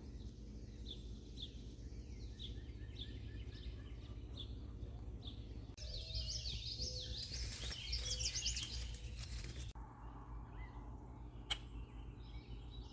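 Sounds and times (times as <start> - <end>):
songbirds singing: 0.0 - 12.9.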